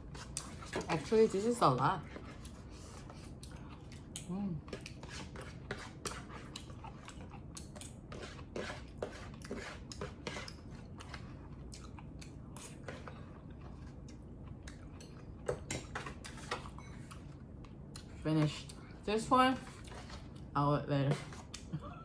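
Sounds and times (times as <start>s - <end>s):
person chewing food: 0.0s - 0.9s, 2.1s - 19.0s.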